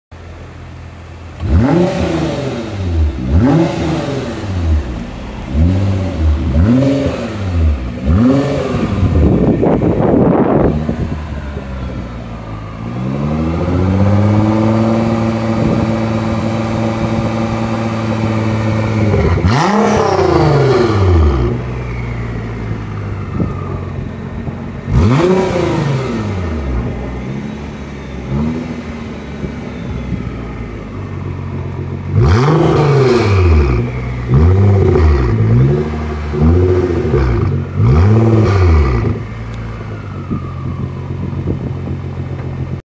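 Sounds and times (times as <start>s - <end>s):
car engine revving: 0.3s - 42.8s.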